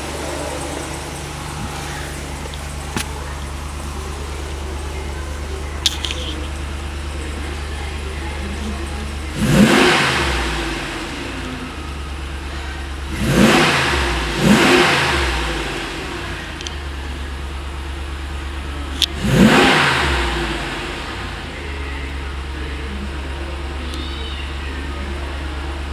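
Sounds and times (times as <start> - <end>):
engine idling and revving: 0.0 - 25.9.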